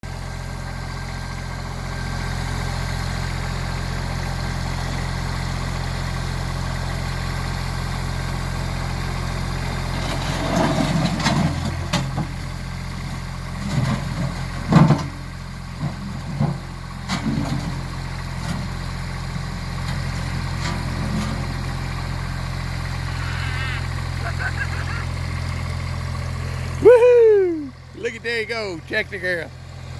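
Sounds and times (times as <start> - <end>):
louder irregular engine sounds: 0.0 - 29.9
tractor engine idling: 0.0 - 29.9.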